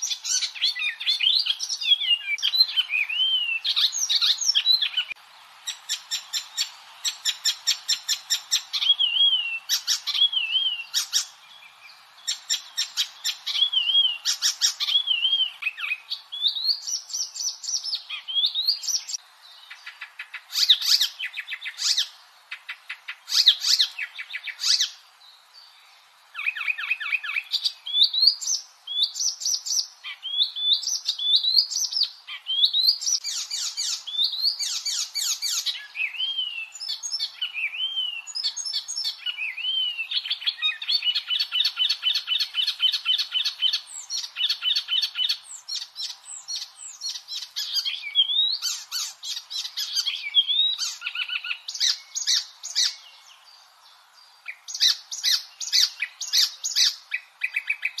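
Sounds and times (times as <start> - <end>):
warbler singing: 0.0 - 58.0.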